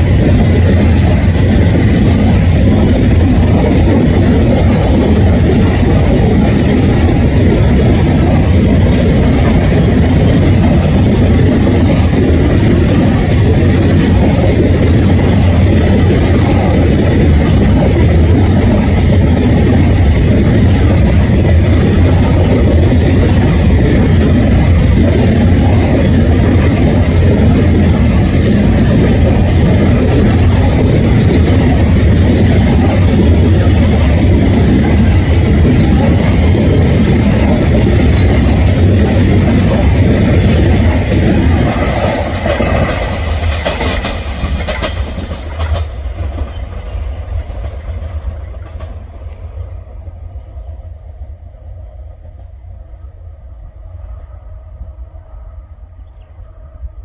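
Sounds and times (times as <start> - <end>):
freight train wheels clattering on rails: 0.0 - 50.2.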